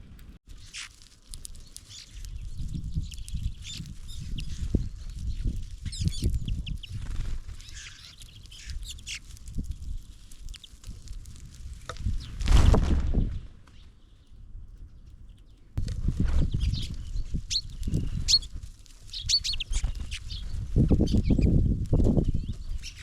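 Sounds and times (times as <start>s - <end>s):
small songbirds chirping: 0.5s - 11.2s, 13.0s - 15.8s, 16.4s - 23.0s.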